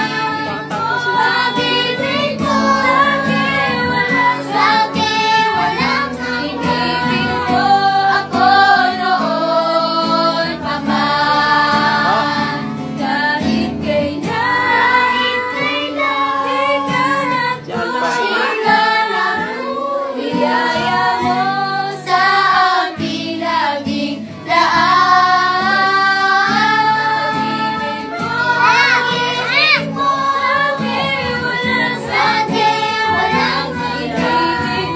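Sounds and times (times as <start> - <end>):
acoustic guitar: 0.0 - 34.9
group singing a worship song: 0.0 - 34.9.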